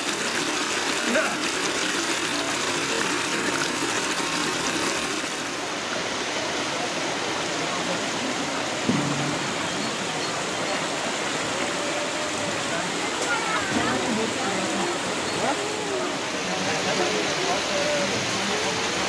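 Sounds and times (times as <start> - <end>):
running splashing water: 0.0 - 19.0.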